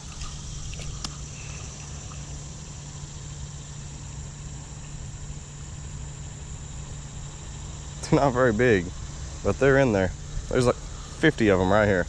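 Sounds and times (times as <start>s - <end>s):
high-pitched insect chorus: 0.0s - 12.0s
low steady rumble: 0.0s - 12.0s.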